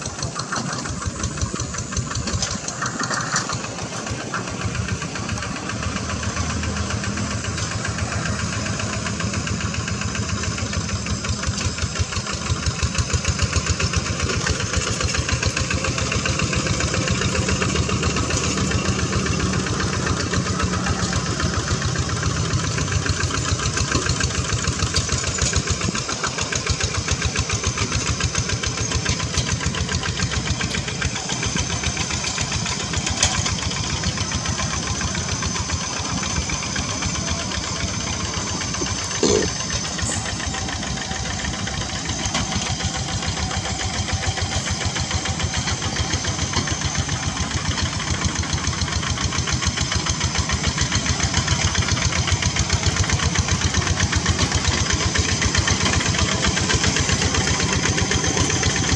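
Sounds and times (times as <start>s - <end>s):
diesel engine knocking: 0.0s - 58.9s.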